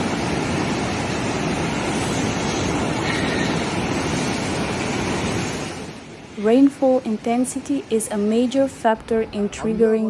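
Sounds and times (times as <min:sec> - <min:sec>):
floodwater rushing: 0:00.0 - 0:08.8.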